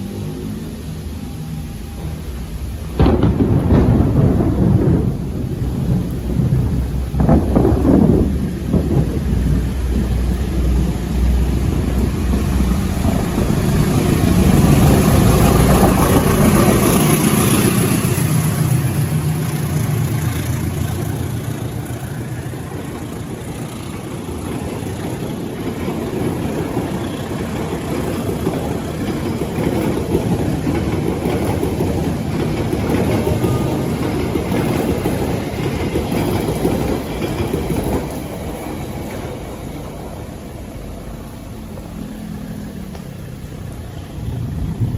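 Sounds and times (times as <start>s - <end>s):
diesel locomotive rumbling: 0.0s - 44.9s.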